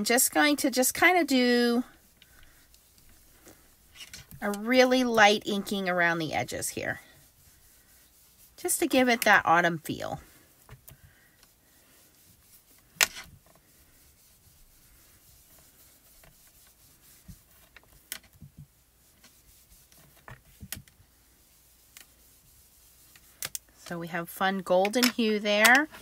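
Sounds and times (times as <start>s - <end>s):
soft rubbing on paper: 0.0s - 26.0s.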